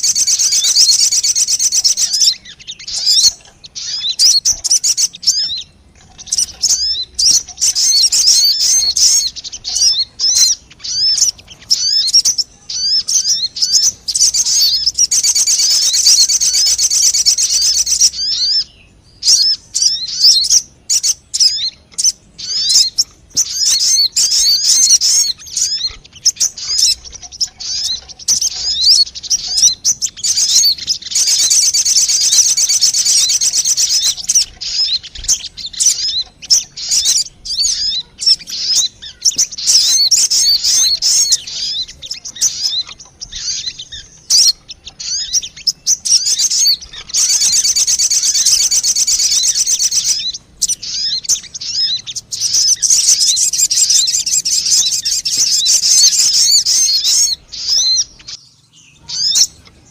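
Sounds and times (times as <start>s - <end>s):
small bird chirping and twittering: 0.0s - 59.9s.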